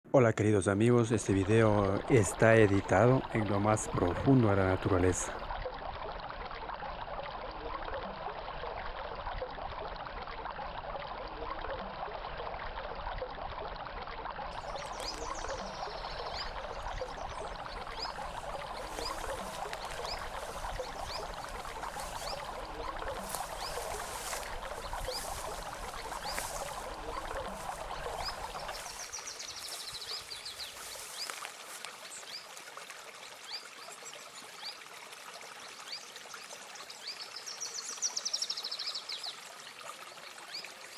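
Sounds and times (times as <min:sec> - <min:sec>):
stream trickling and splashing: 0:00.2 - 0:40.9.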